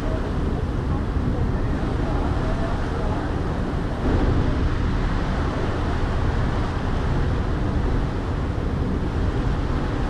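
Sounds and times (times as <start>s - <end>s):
churning wake water: 0.0s - 10.0s
ferry engine rumble: 0.0s - 10.0s
wind on microphone: 0.0s - 10.0s.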